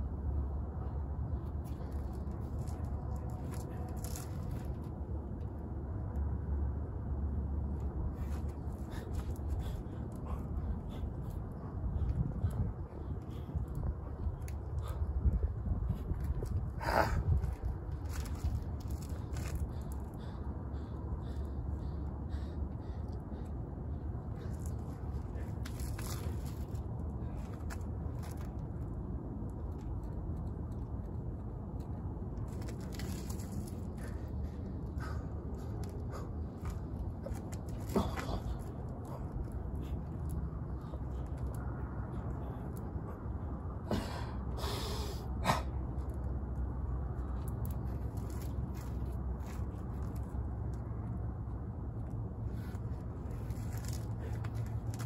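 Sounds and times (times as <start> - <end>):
low outdoor background hum: 0.0 - 55.0
low rumbling background noise: 0.0 - 55.0.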